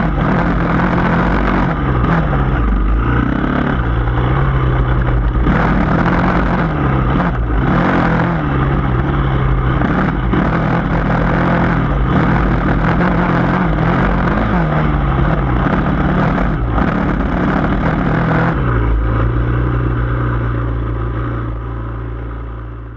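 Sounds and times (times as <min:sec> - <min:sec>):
dirt bike engine revving: 0:00.0 - 0:22.1.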